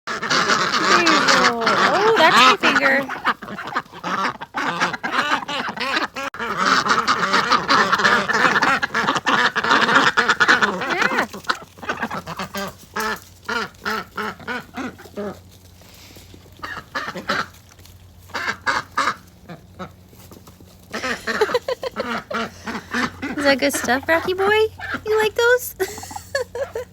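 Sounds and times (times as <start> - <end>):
ducks quacking: 0.1 - 26.9.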